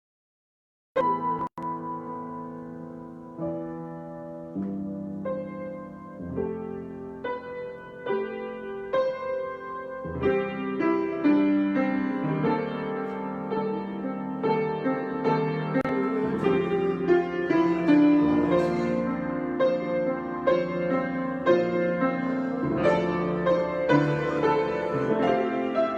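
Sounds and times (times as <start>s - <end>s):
solo piano: 1.0s - 25.9s.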